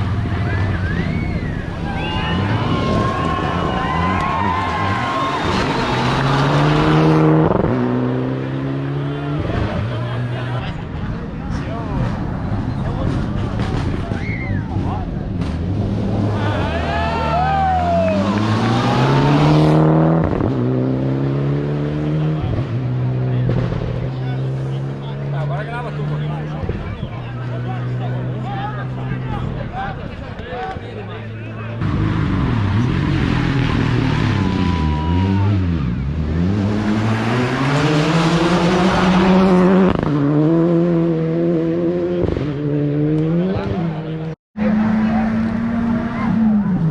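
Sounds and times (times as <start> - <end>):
rally car engine accelerating: 0.0 - 46.9.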